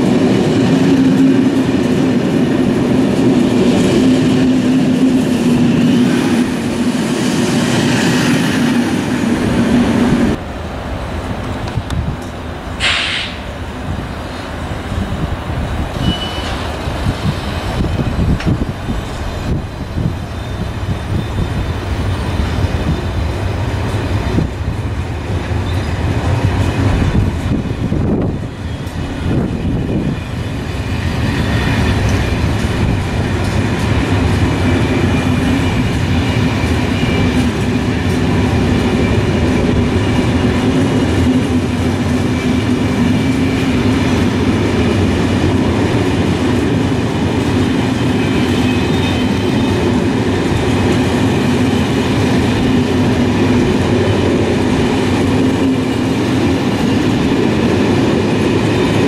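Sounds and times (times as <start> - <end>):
train wheels rumbling and clacking: 0.0 - 59.0.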